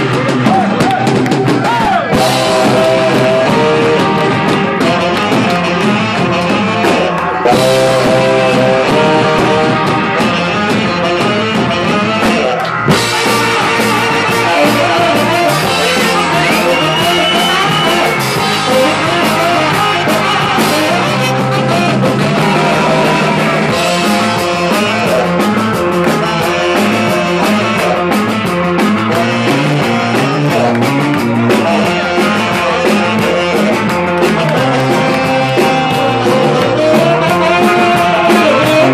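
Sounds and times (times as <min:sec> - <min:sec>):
rock and roll band playing: 0:00.0 - 0:38.9
saxophone: 0:00.0 - 0:38.9.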